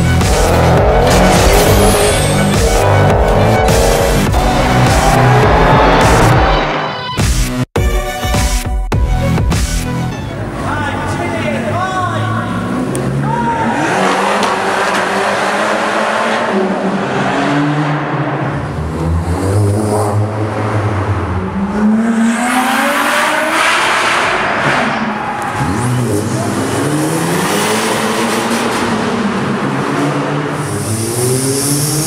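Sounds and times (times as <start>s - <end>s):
cars accelerating in a tunnel: 0.0s - 7.1s, 10.1s - 32.0s.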